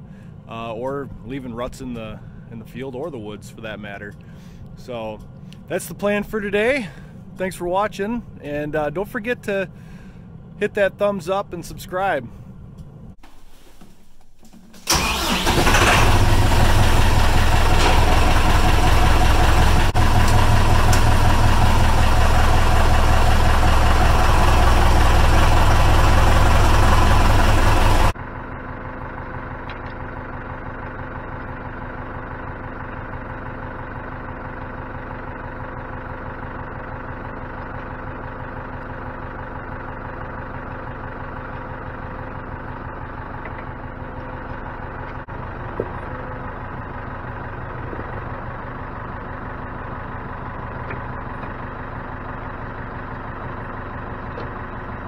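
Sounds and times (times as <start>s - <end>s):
tractor engine running: 0.0s - 13.3s, 14.4s - 55.0s.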